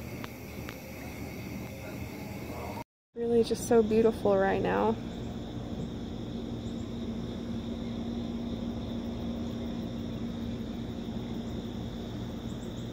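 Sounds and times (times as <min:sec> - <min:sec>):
constant low hum: 0:00.0 - 0:12.9.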